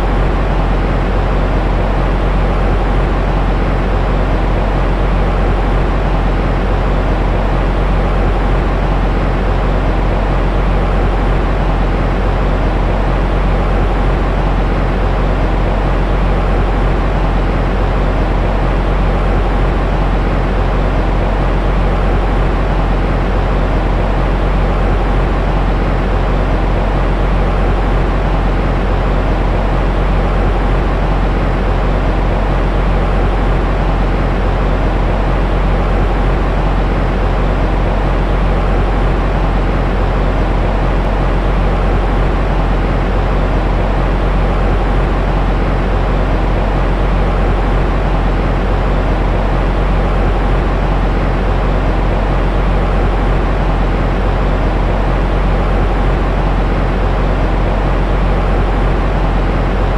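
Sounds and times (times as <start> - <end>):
low rumbling white noise: 0.0 - 59.9.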